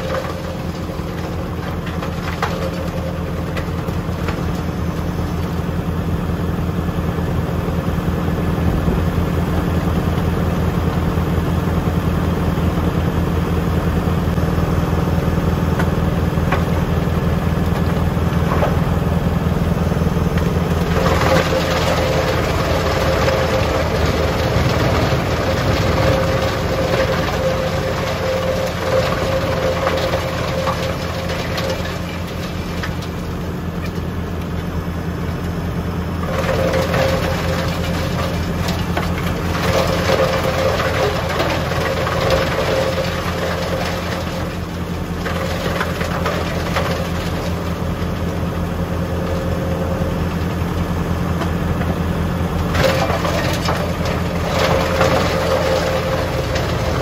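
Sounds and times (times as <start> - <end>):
tractor engine running: 0.0 - 57.0
wood chipper whine: 0.0 - 57.0.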